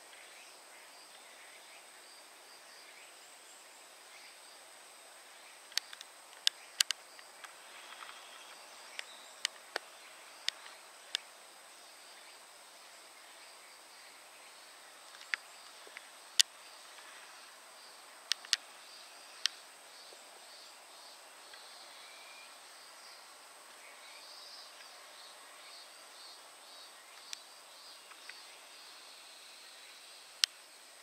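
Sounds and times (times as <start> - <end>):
high-pitched insect whine: 0.0 - 31.0.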